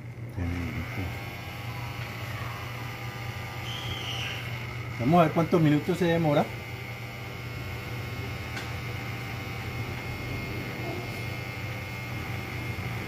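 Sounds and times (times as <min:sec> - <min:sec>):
small fan motor humming: 0:00.0 - 0:13.0.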